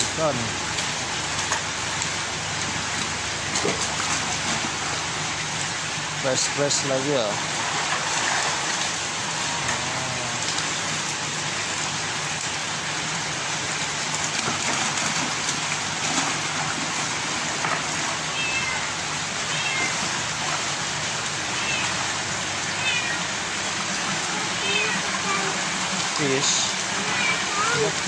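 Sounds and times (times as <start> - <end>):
water rushing: 0.0 - 28.0.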